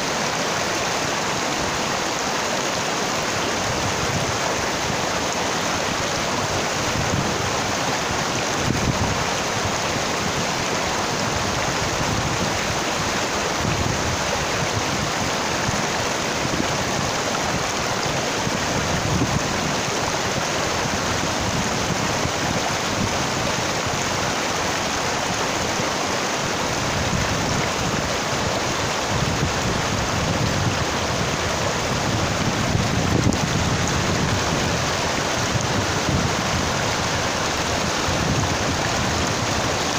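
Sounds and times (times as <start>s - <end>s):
stream rushing over stones: 0.0s - 39.9s
wind buffeting microphone: 5.8s - 25.4s, 26.7s - 39.9s.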